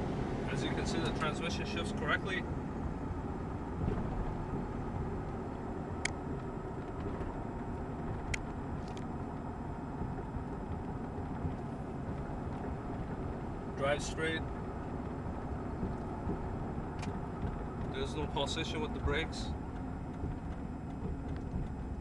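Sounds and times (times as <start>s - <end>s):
engine and road noise in cab: 0.0s - 22.0s.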